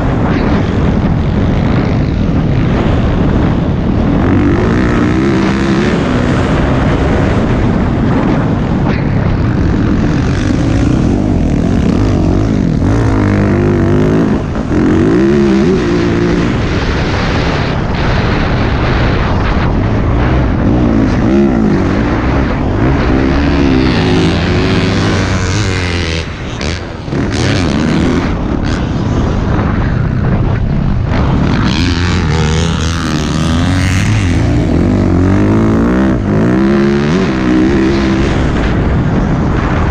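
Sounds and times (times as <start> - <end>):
dirt bike engine revving: 0.0 - 39.9
wind noise: 0.0 - 39.9.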